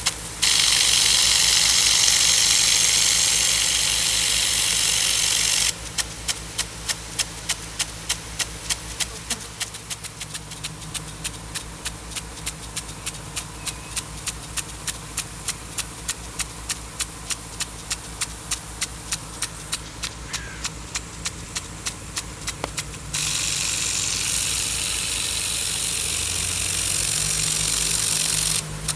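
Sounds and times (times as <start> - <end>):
hiss of water spray: 0.0 - 28.9
sprinkler arm knocking: 0.0 - 28.9
steady engine hum: 0.0 - 28.9.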